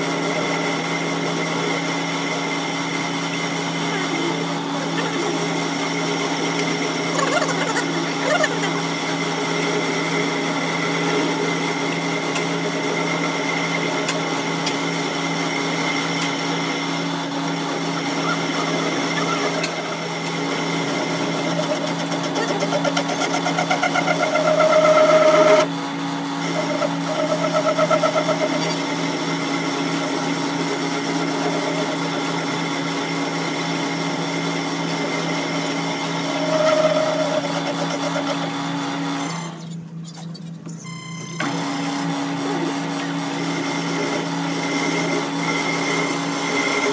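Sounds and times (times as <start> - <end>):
electric workshop machine running: 0.0 - 46.9
high machine whine: 0.0 - 46.9.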